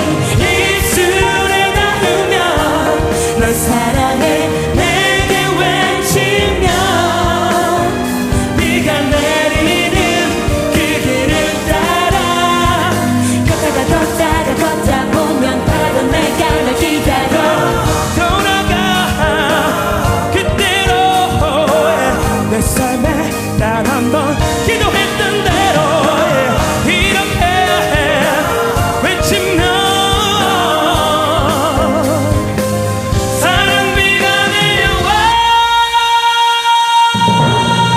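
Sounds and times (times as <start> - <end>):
man singing pop ballad: 0.0 - 32.6, 33.3 - 37.9
drums: 0.0 - 37.9
piano: 0.0 - 37.9
string section: 0.0 - 37.9.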